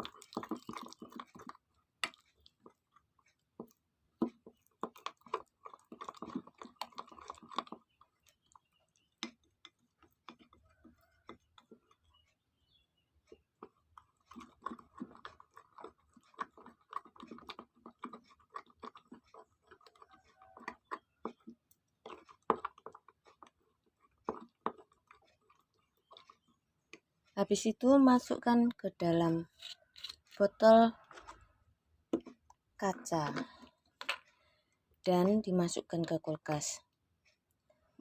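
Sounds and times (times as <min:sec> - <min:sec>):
spoon stirring in a bowl: 0:00.0 - 0:12.3, 0:13.3 - 0:34.2.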